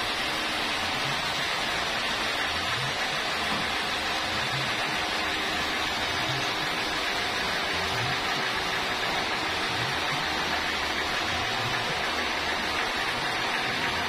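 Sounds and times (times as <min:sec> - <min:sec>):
sawmill machinery rushing: 0:00.0 - 0:14.0.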